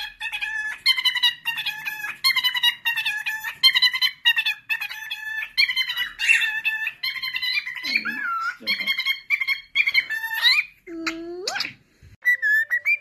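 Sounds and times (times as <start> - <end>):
cockatiel chattering and warbling: 0.0 - 13.0.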